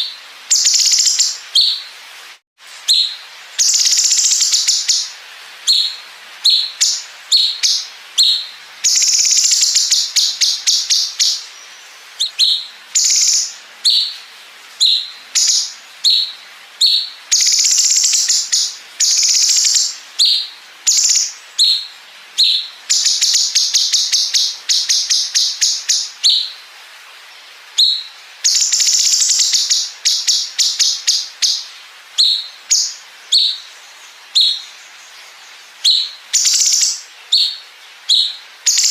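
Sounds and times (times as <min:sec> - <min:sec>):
bird sharp high chirps: 0:00.0 - 0:01.8, 0:02.8 - 0:05.1, 0:05.7 - 0:14.2, 0:14.8 - 0:26.5, 0:27.8 - 0:33.7, 0:34.3 - 0:34.8, 0:35.8 - 0:38.9.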